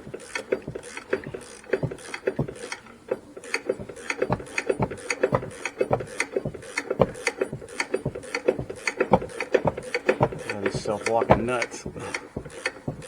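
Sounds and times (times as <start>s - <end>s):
hand ratchet clicking: 0.0s - 13.0s.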